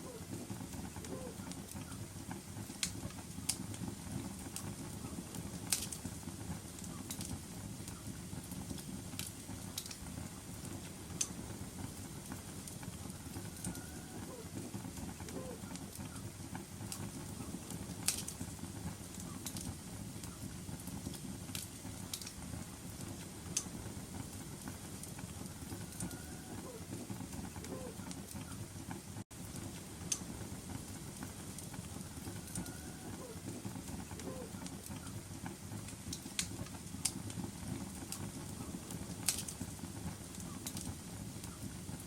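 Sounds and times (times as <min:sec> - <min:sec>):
low rumble of flames: 0:00.0 - 0:42.0
fire popping sharply: 0:00.1 - 0:42.0.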